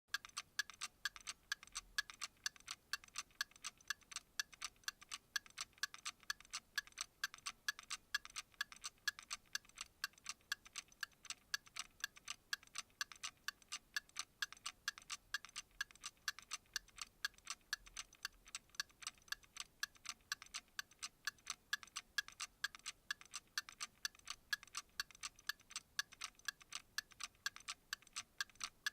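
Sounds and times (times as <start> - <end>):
clock ticking: 0.1 - 28.9.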